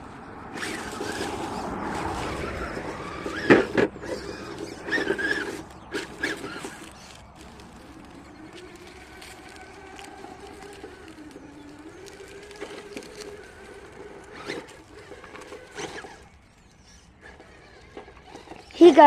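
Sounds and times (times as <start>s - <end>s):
electric motor whining: 0.0s - 19.0s
tires clicking on rock: 0.0s - 19.0s.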